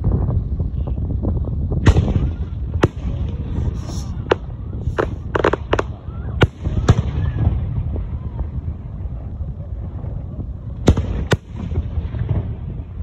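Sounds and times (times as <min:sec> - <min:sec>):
fireworks bangs and pops: 0:00.0 - 0:08.9, 0:09.7 - 0:13.0
fireworks crackle: 0:00.0 - 0:13.0
low rumble: 0:00.0 - 0:13.0.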